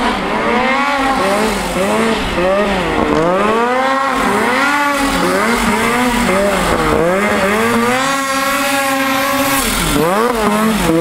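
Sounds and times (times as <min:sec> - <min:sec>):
snowmobile engine revving: 0:00.0 - 0:11.0.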